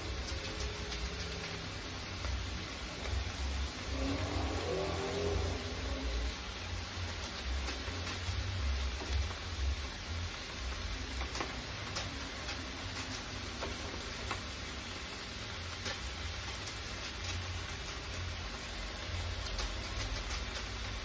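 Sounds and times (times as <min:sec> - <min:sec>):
cabbage sizzling in fat: 0:00.0 - 0:21.0.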